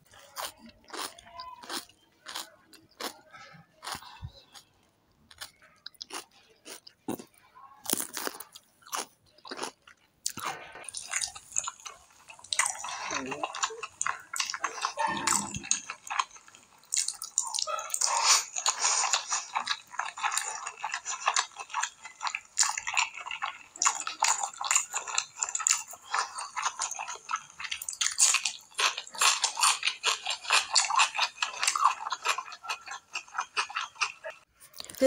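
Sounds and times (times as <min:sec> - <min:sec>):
mouth chewing: 0:00.0 - 0:35.0.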